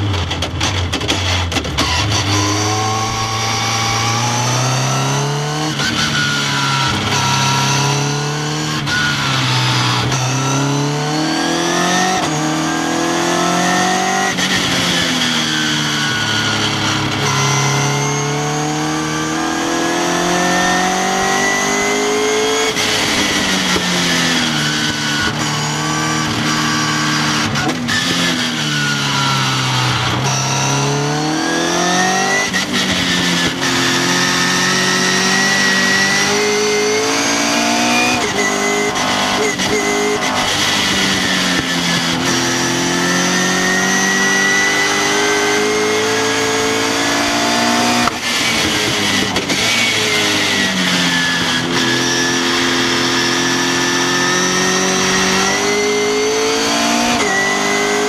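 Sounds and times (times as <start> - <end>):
sports car engine revving: 0.0 - 58.0.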